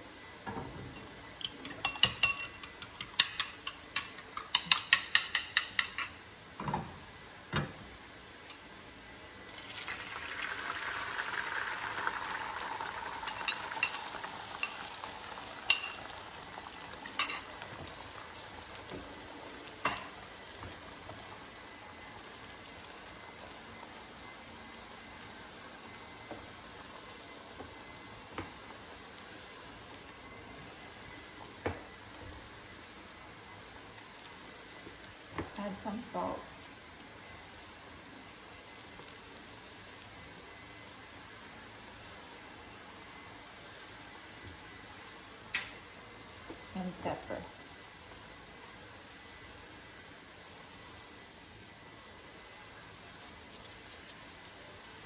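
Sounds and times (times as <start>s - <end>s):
egg sizzling in frying pan: 0.0s - 6.3s, 8.0s - 55.0s.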